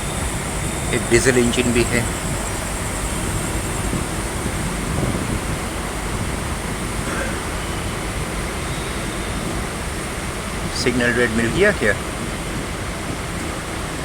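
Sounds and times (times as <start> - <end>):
train rumble and hiss on board: 0.0 - 14.0.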